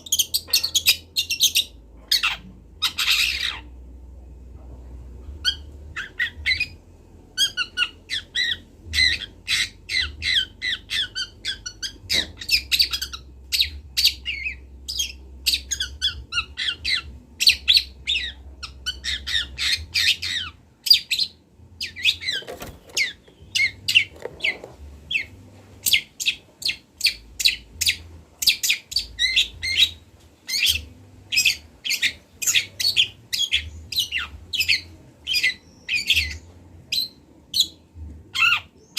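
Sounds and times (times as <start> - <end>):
faint low hum: 0.0 - 38.9.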